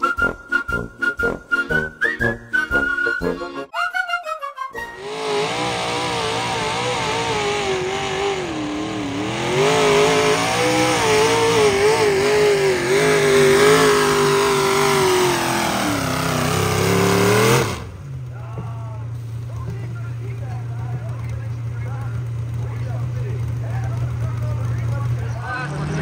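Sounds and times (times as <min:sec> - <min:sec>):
engine revving under load: 0:04.8 - 0:26.0.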